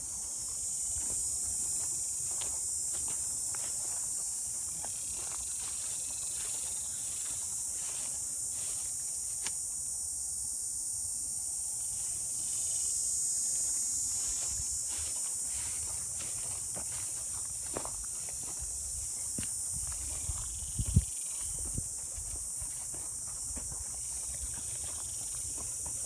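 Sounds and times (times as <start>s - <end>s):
footsteps through dry grass: 0.0s - 9.6s, 13.6s - 26.0s
insects droning: 0.0s - 26.0s.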